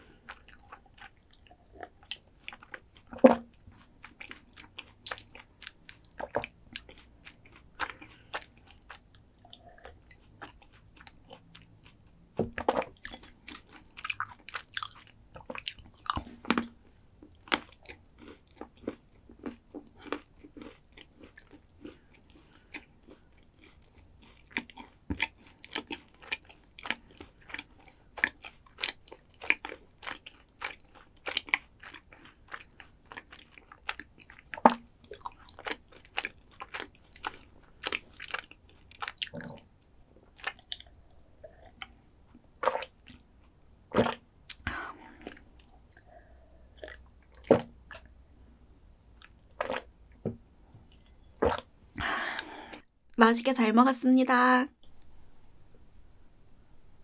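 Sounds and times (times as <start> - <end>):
chewing and crunching: 0.0 - 48.1, 49.2 - 49.9.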